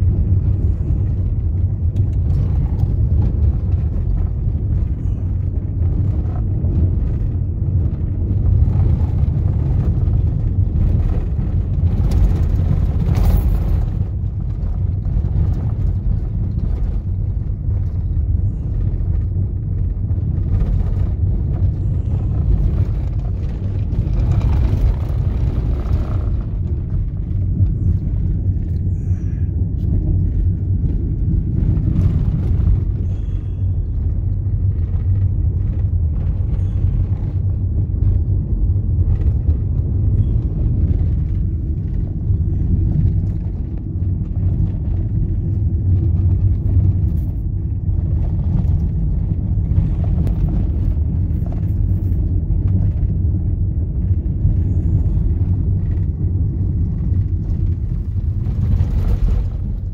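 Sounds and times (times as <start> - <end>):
vehicle rumble on gravel road: 0.0 - 59.9.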